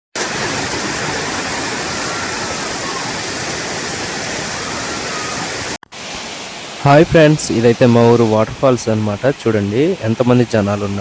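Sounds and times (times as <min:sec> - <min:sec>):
waterfall rushing: 0:00.2 - 0:11.0.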